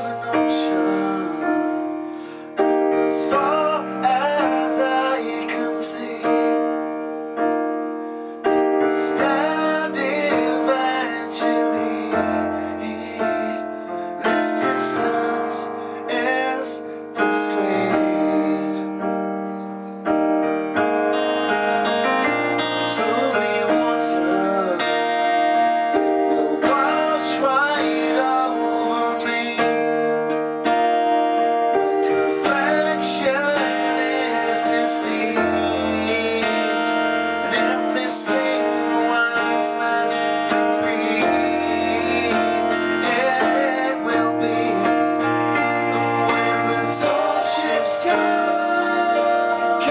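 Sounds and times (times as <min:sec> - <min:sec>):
keyboard chords: 0:00.0 - 0:49.9.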